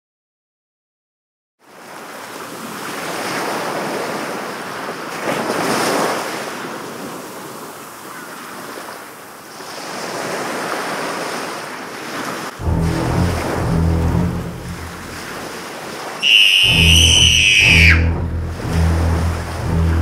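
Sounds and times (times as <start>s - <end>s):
ocean waves washing: 1.7s - 20.0s.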